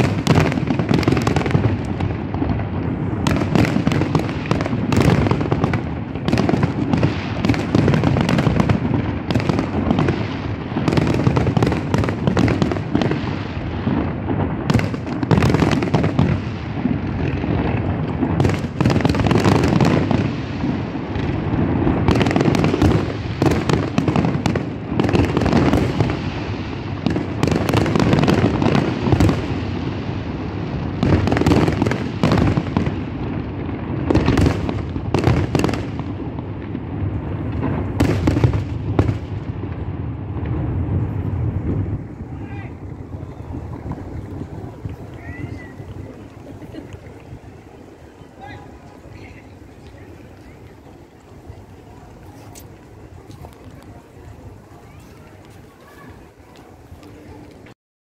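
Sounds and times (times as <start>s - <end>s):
fireworks bursting: 0.0s - 57.8s.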